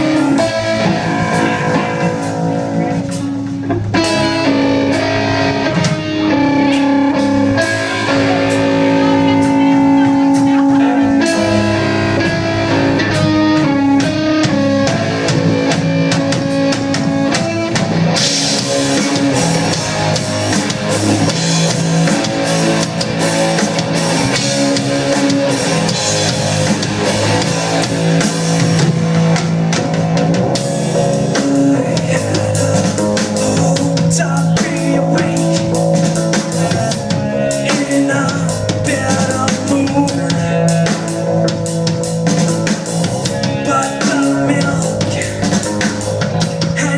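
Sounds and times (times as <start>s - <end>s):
drum hits: 0.0s - 46.9s
rock band playing: 0.0s - 46.9s.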